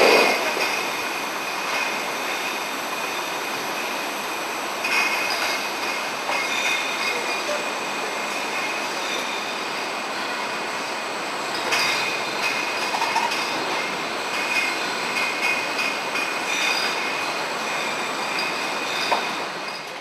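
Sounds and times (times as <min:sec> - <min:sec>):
conveyor hiss: 0:00.0 - 0:20.0.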